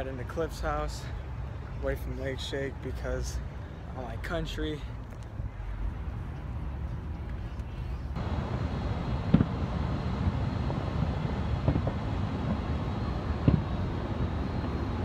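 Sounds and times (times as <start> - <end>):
city ambience rumble: 0.0 - 15.0.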